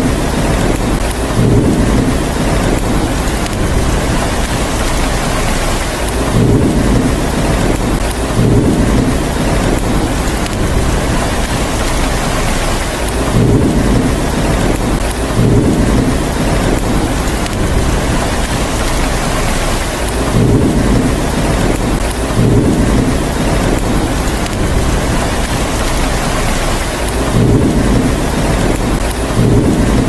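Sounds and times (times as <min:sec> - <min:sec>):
heavy rain hissing: 0:00.0 - 0:30.0
thunder rumbles: 0:00.0 - 0:30.0.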